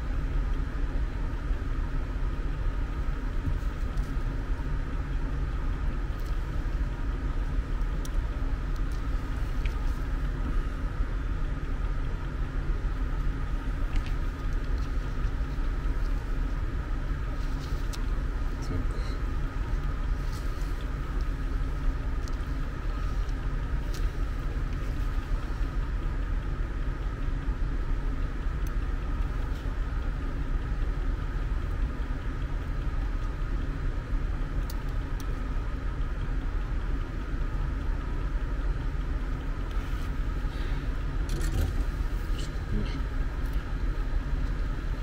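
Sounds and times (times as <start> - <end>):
low machine hum: 0.0 - 45.0.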